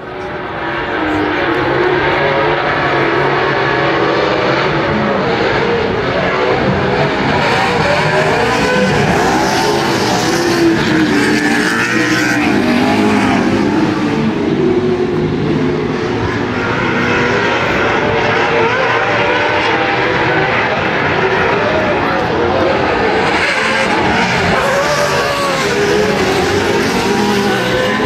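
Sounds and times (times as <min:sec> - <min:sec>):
race trucks engines revving: 0:00.0 - 0:28.0.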